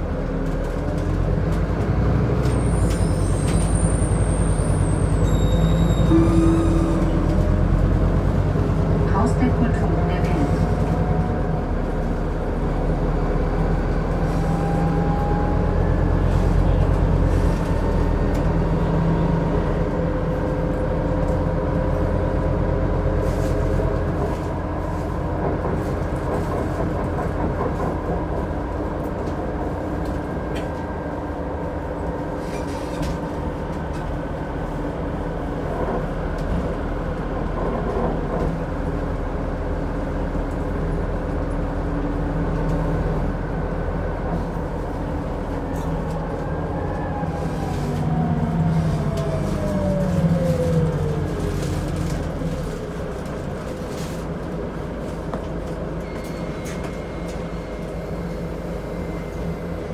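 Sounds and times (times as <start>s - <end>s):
bus engine drone with faint whine: 0.0s - 59.9s.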